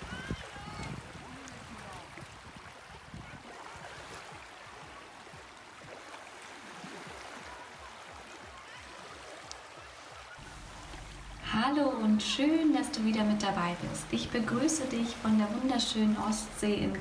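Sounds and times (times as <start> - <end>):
water lapping on shore: 0.0 - 17.0.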